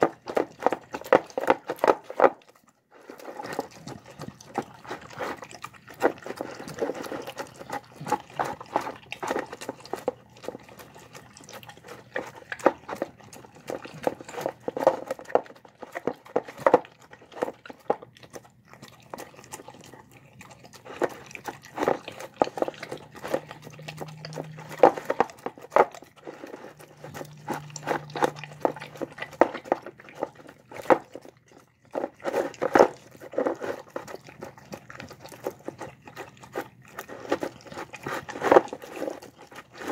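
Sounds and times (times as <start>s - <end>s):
dog chewing and licking: 0.0s - 39.9s.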